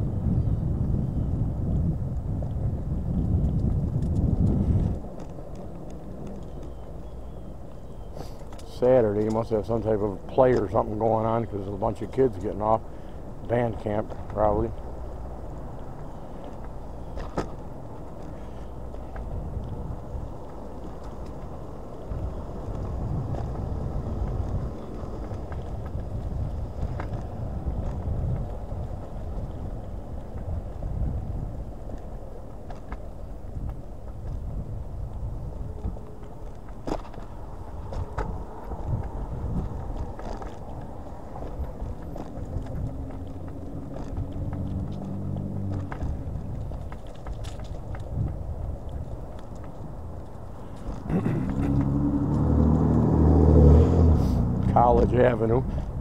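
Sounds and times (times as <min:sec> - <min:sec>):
road noise: 0:00.0 - 0:56.0
wind rumbling on microphone: 0:00.0 - 0:56.0.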